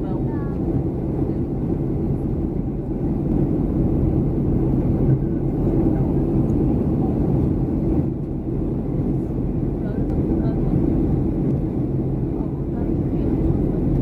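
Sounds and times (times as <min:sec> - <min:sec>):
airplane cabin engine rumble: 0:00.0 - 0:14.0
steady hum: 0:00.0 - 0:14.0.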